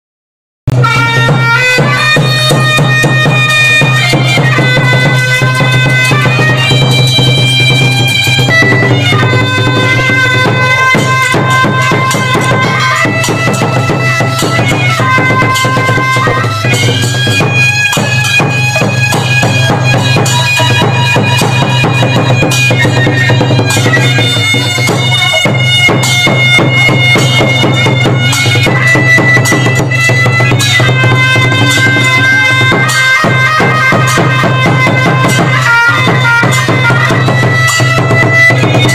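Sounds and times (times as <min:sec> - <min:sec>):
drum strokes: 0:00.7 - 0:38.9
reedy wind instrument melody: 0:00.7 - 0:38.9.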